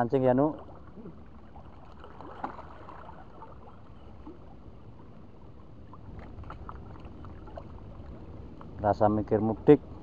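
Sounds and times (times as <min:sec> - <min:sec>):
water lapping: 0:00.0 - 0:08.8
wind: 0:00.0 - 0:10.0.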